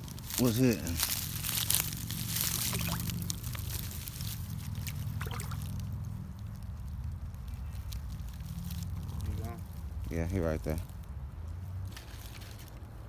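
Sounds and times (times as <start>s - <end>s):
steady low rumble: 0.0s - 11.0s
brush crackling and rustling: 0.0s - 13.0s.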